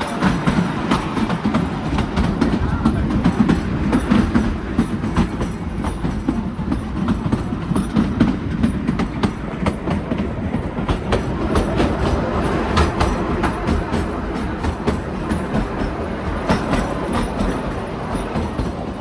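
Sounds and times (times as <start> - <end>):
train rumbling along track: 0.0 - 19.0
wheels clicking over rail joints: 0.0 - 19.0.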